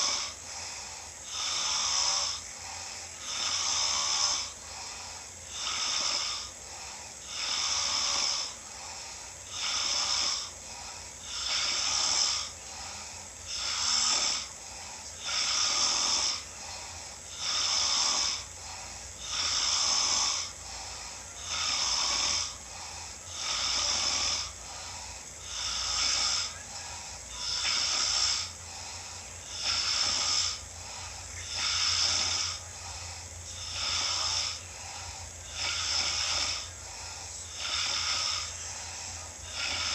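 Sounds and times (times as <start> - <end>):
person snoring: 0.0 - 39.9.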